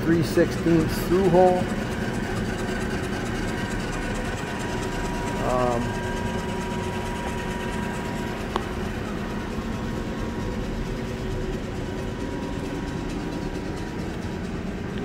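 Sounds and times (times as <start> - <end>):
machinery hum with whine: 0.0 - 15.0.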